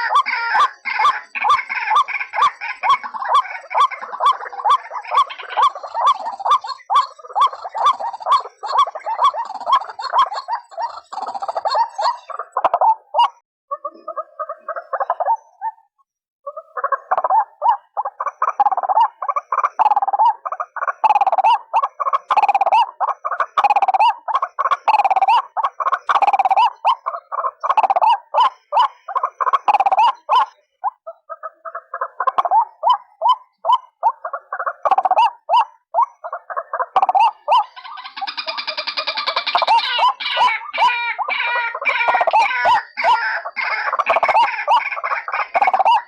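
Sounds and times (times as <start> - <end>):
waterhen calling: 0.0 - 15.8, 16.5 - 46.0.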